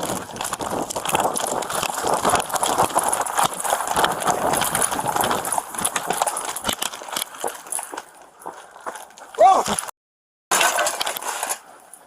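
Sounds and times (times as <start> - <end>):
hurried footsteps: 0.0 - 9.9.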